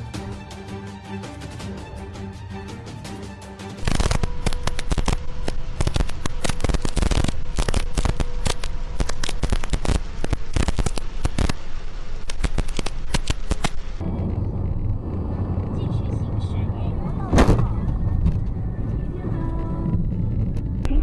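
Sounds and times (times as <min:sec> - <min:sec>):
heavy rain on vehicle roof: 0:03.8 - 0:20.7.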